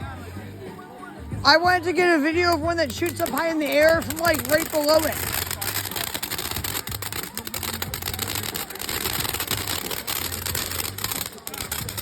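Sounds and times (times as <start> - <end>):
fireworks crackling: 1.5 - 12.0.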